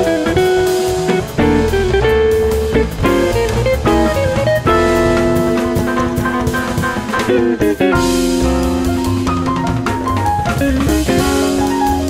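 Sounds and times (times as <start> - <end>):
smooth jazz instrumental: 0.0 - 12.0.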